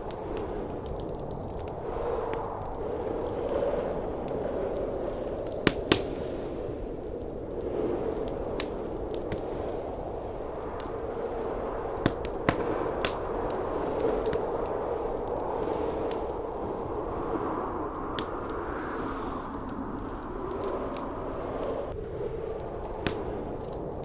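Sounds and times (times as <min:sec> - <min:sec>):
howling blizzard wind: 0:00.0 - 0:24.0
wood fire crackling and popping: 0:00.0 - 0:24.0.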